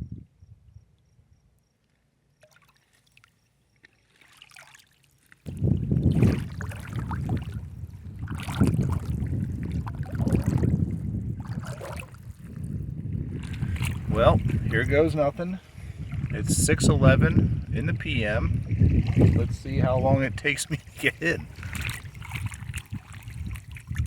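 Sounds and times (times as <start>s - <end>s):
wind rumbling on microphone: 0.0s - 1.4s, 5.4s - 24.0s
water sloshing: 2.4s - 24.0s.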